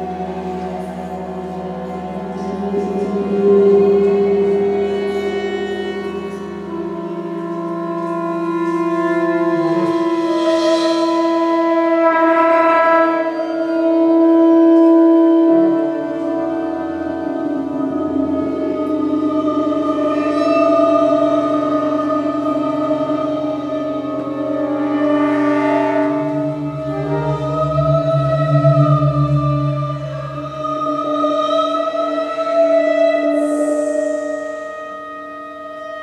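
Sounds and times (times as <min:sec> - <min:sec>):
chamber orchestra sustained notes: 0:00.0 - 0:36.0.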